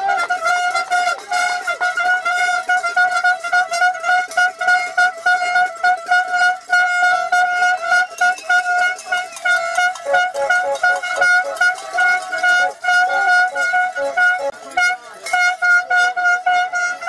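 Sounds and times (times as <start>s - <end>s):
plastic horn tooting: 0.0s - 17.0s.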